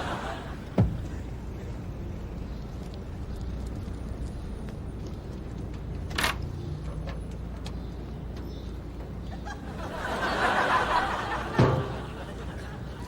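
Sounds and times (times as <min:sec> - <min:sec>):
car engine rumbling: 0:00.0 - 0:10.0, 0:11.0 - 0:13.0.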